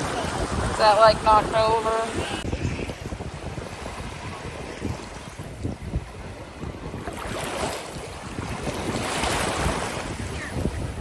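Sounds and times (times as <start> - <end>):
waves washing up on beach: 0.0 - 11.0
wind rumbling on microphone: 0.0 - 11.0.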